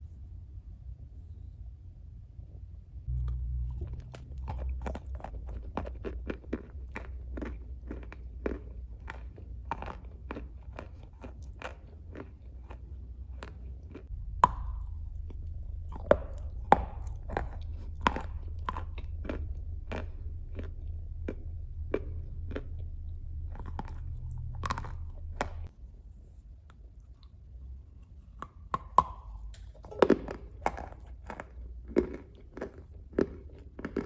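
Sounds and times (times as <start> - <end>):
chewing crunches: 3.1 - 25.7, 28.1 - 34.0.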